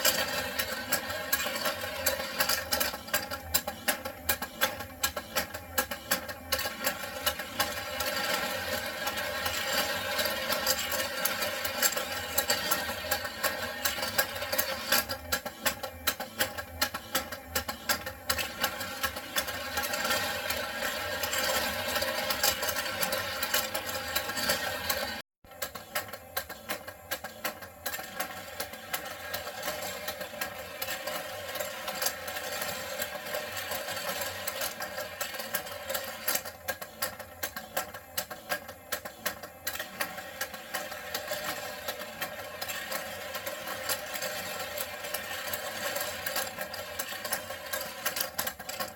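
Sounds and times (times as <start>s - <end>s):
small toy motor whirring: 0.0s - 48.9s.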